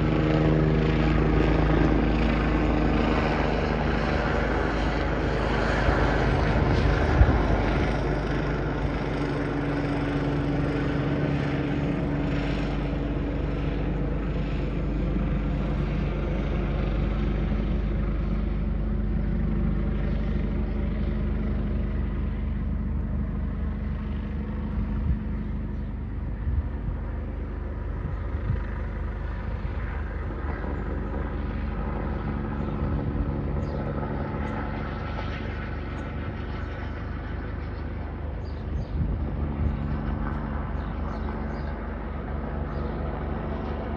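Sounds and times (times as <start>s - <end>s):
helicopter rotor drone: 0.0s - 43.9s.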